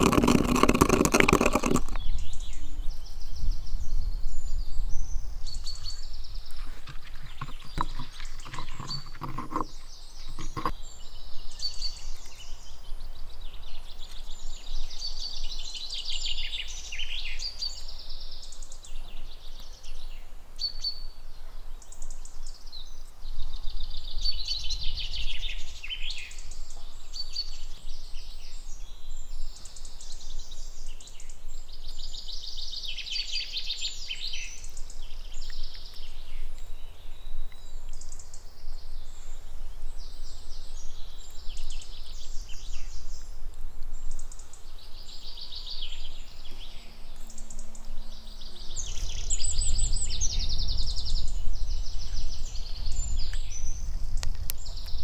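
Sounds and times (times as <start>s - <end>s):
birds singing trilling phrases: 0.0s - 55.0s.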